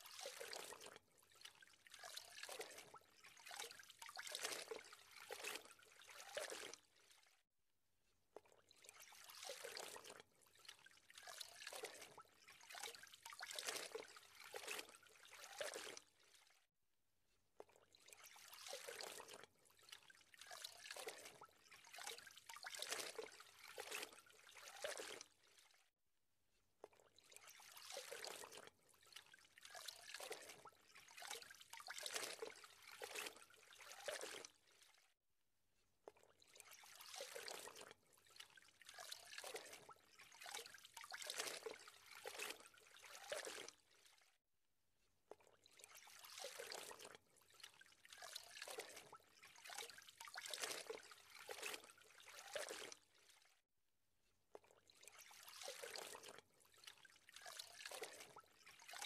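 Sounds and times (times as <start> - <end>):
water trickling and splashing: 0.0 - 7.5, 8.4 - 16.7, 17.6 - 26.0, 26.8 - 35.2, 36.0 - 44.4, 45.3 - 53.7, 54.5 - 59.0.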